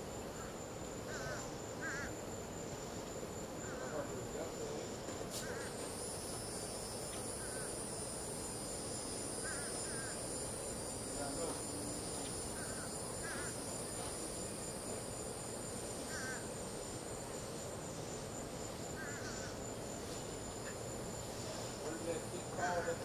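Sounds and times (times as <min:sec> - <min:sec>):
crickets trilling: 0:00.0 - 0:23.0.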